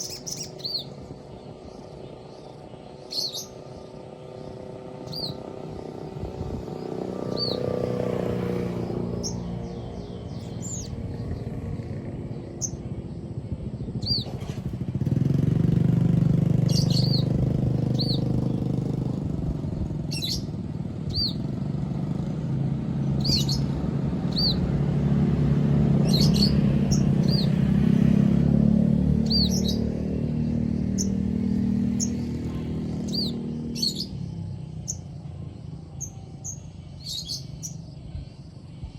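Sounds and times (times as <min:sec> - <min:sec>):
low engine-like drone: 0:00.0 - 0:38.9
songbird chirping: 0:00.0 - 0:38.9.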